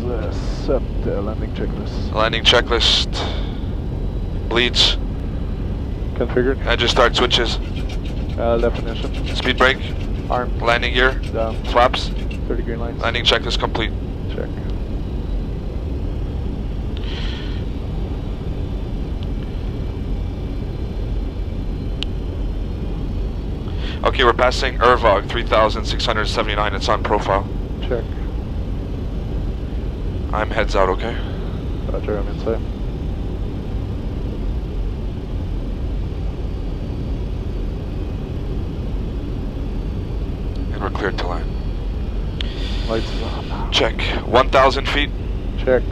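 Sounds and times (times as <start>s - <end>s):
airflow and engine rumble: 0.0s - 45.9s.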